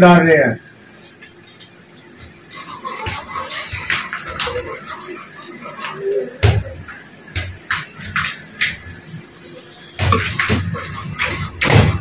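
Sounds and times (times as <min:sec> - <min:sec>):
onions sizzling in a pot: 0:00.0 - 0:12.0.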